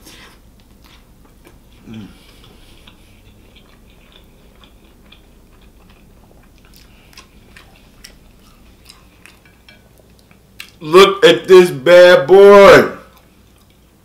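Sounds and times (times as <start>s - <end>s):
close chewing mouth sounds: 0.0s - 10.8s, 13.1s - 14.0s.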